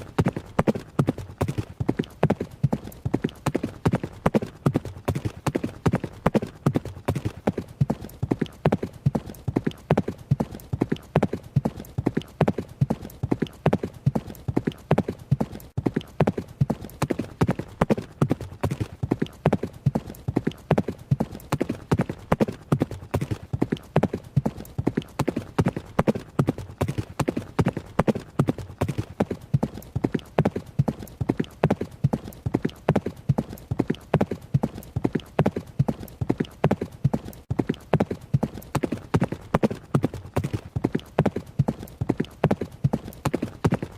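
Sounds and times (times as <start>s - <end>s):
horse hooves galloping: 0.0s - 43.9s.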